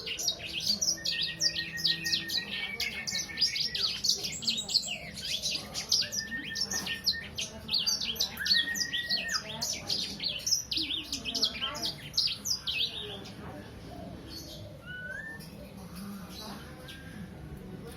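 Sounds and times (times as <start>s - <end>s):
songbird chirps and trills: 0.0s - 17.9s.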